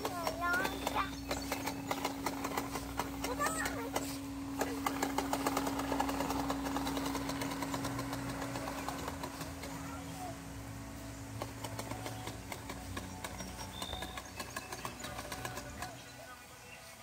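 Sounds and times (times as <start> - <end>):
toy lawn mower clicking: 0.0 - 16.4
steady low hum: 0.0 - 17.0.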